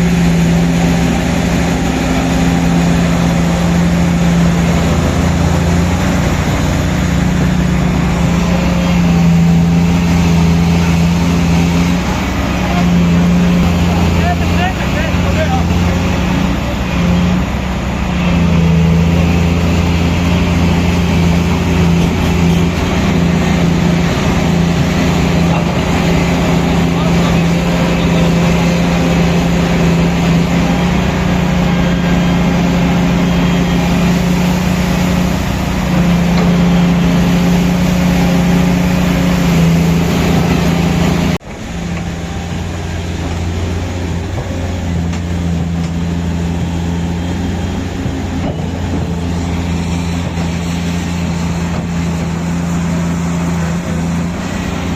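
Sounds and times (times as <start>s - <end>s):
diesel machinery running: 0.0s - 54.9s.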